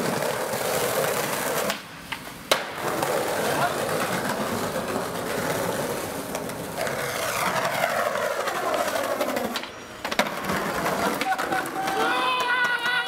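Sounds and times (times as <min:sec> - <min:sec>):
skateboard clack: 0:00.0 - 0:13.0.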